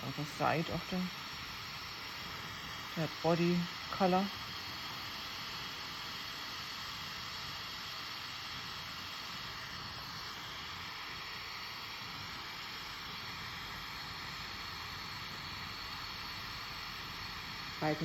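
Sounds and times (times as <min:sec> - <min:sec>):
torch flame hissing: 0:00.0 - 0:18.0.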